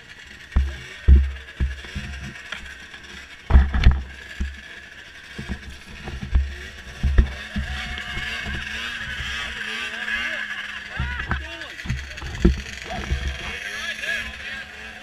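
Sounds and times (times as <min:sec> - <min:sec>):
snowmobile engines running: 0:00.0 - 0:15.0.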